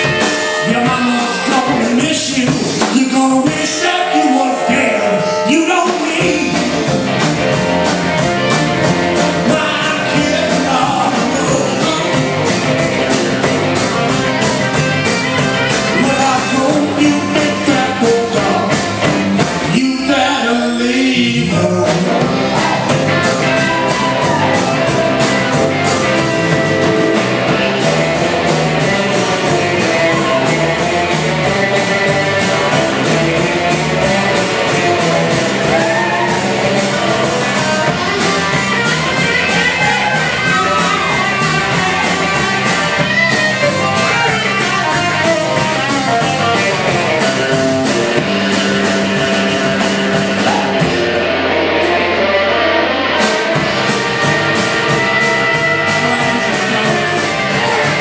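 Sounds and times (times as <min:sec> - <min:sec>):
drum kit steady beat: 0:00.0 - 0:58.0
electric guitars: 0:00.0 - 0:58.0.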